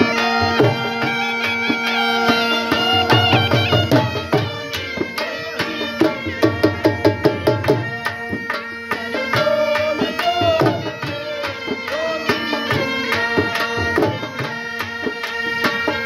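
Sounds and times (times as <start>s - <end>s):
drum beating fast rhythm: 0.0s - 15.2s
reed pipe wavering melody: 0.0s - 16.0s.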